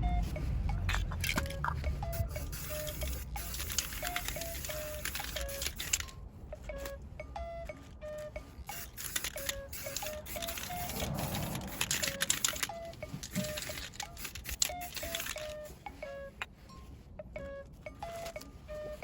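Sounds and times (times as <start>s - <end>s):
bouncy background music: 0.0s - 19.0s.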